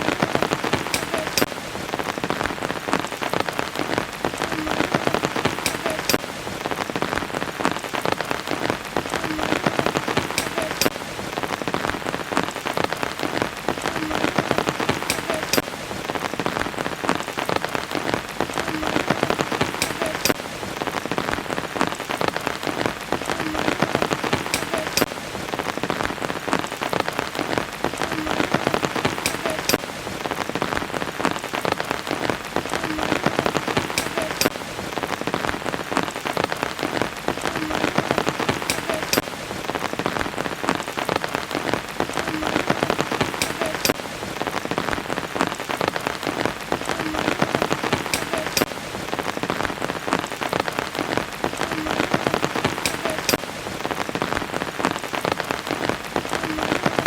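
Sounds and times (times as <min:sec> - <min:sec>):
rain falling: 0:00.0 - 0:57.0
sharp raindrop hits: 0:00.0 - 0:57.0.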